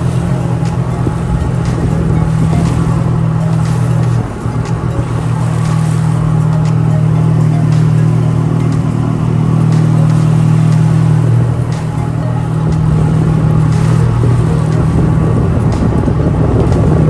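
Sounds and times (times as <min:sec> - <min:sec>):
engine droning steadily: 0:00.0 - 0:17.0.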